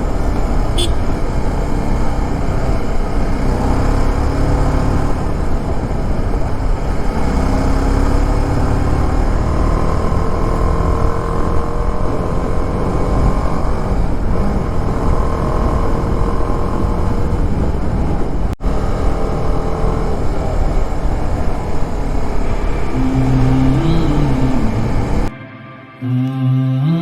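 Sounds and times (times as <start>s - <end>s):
motorcycle engine running: 0.0s - 25.3s
wind rumble on microphone: 0.0s - 25.3s.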